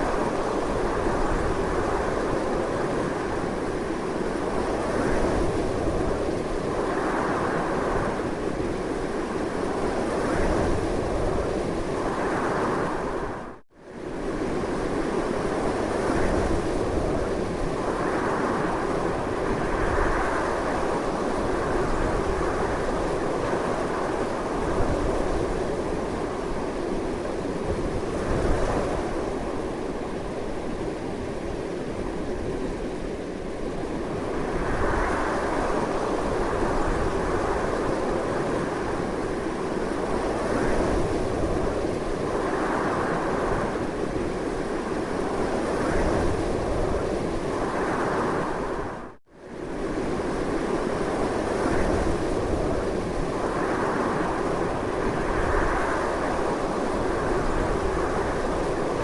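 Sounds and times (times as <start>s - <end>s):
strong gusting wind: 0.0s - 59.0s.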